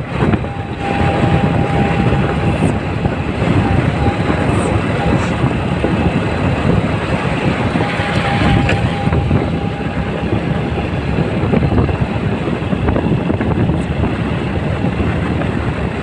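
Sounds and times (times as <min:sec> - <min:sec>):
thin steady whine: 0:00.0 - 0:15.1
wind and road noise: 0:00.0 - 0:16.0.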